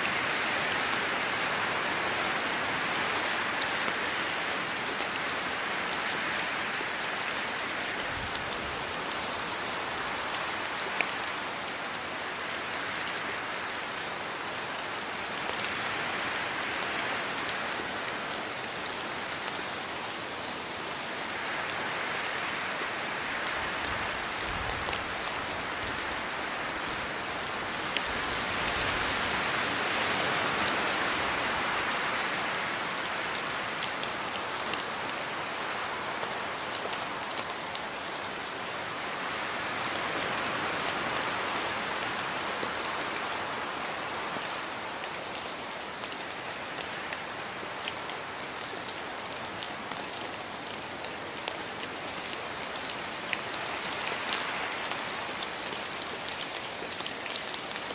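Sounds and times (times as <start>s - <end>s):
close raindrops striking: 0.0s - 57.9s
steady rain falling: 0.0s - 57.9s.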